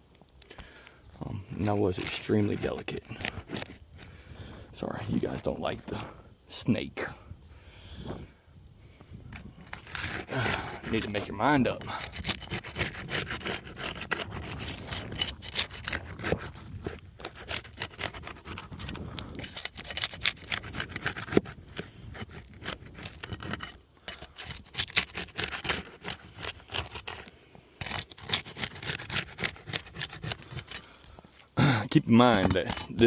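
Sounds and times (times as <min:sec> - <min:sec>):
gritty scraping of roof shingles: 0:01.4 - 0:04.6, 0:09.4 - 0:33.0.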